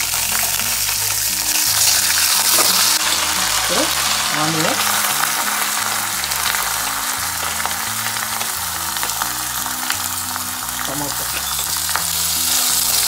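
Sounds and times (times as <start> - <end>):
background music: 0.0 - 13.0
onions sizzling in hot oil: 0.0 - 13.0.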